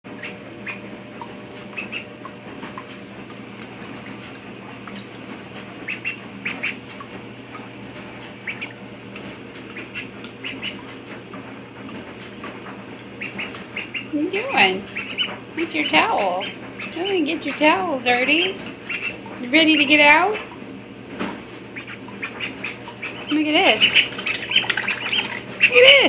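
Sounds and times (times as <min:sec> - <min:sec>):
duckling peeping: 0:00.2 - 0:04.0, 0:05.8 - 0:11.0, 0:13.0 - 0:20.6, 0:21.6 - 0:26.0.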